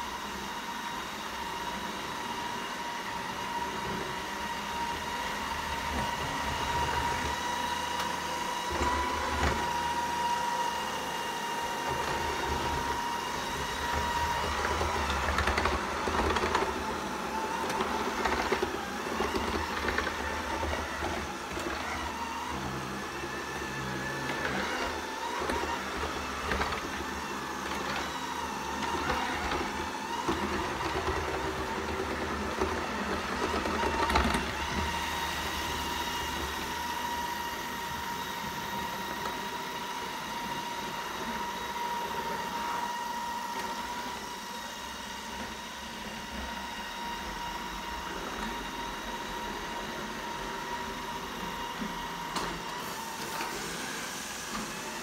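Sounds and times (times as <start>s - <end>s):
robot vacuum motor whine: 0.0s - 55.0s.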